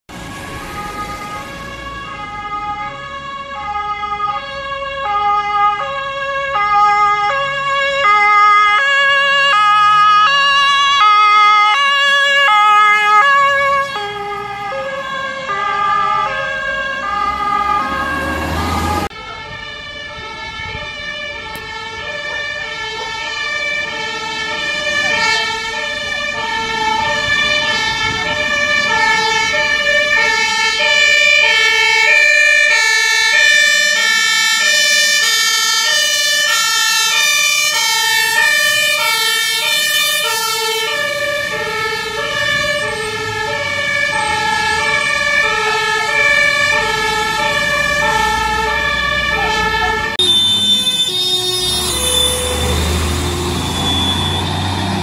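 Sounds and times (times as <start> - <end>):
two-tone sirens passing: 0.1 - 55.0.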